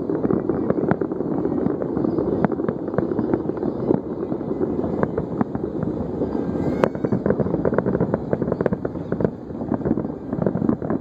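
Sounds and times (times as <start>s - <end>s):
distant fireworks booming: 0.0s - 11.0s.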